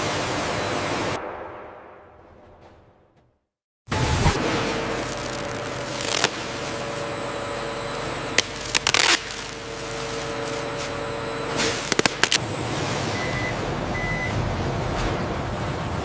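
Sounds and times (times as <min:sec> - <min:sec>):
factory machinery hum: 0:00.0 - 0:01.3, 0:03.9 - 0:16.0.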